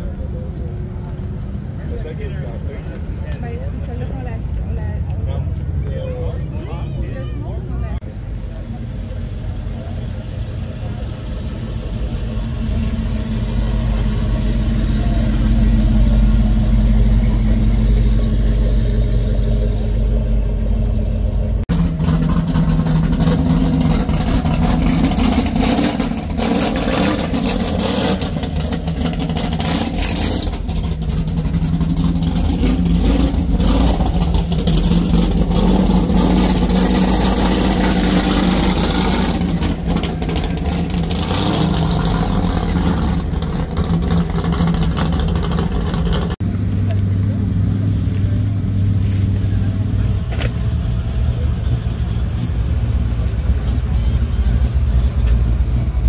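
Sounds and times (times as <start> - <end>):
hot rod engine idling and revving: 0.0 - 56.0
car engine running: 7.6 - 56.0.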